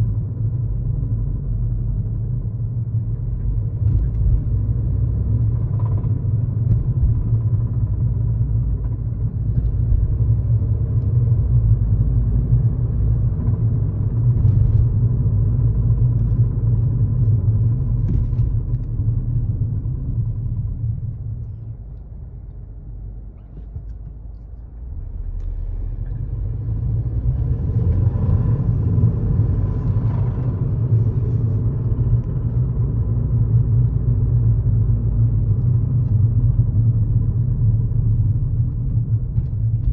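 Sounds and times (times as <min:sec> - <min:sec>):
car engine running with rattle: 0:00.0 - 0:39.9.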